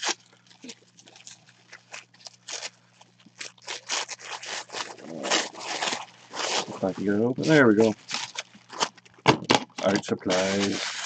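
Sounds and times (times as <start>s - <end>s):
tissue paper crinkling: 0.0s - 9.1s, 9.8s - 11.0s.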